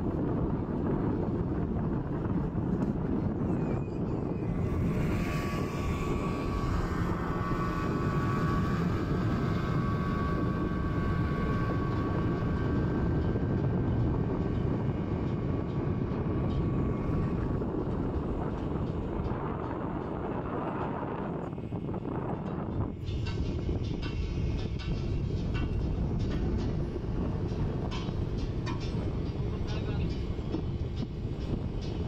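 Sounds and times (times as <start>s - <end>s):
boat engine drone: 0.0s - 32.0s
speedboat outboard motor whine: 0.0s - 32.0s.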